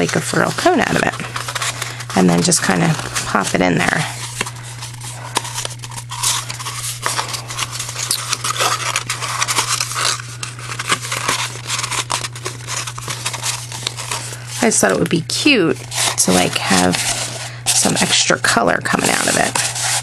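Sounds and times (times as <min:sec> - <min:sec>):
paper rustling and crackling: 0:00.0 - 0:20.0
steady low hum: 0:00.0 - 0:20.0.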